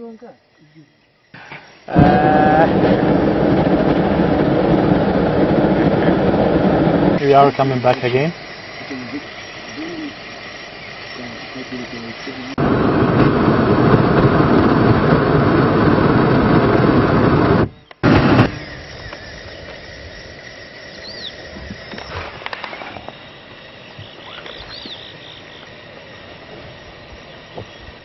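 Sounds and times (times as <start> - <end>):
open-air hush: 0.0 - 28.0
propane burner roaring: 1.4 - 28.0.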